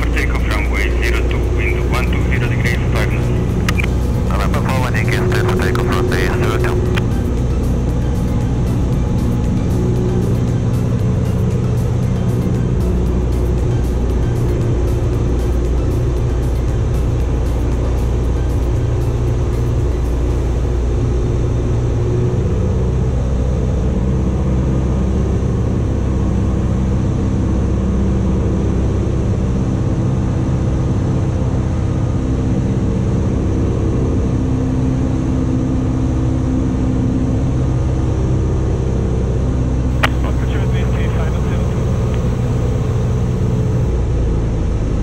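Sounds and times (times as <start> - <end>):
plane engine and propeller droning: 0.0 - 45.0.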